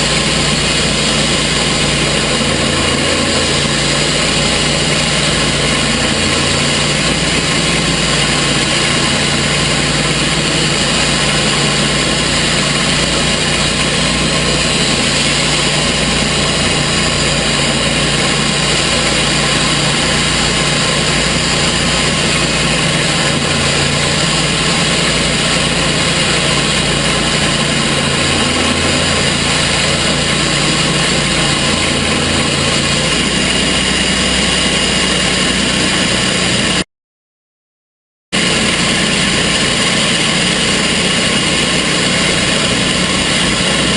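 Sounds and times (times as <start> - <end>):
sawmill gas engine running: 0.0 - 36.8, 38.3 - 43.9.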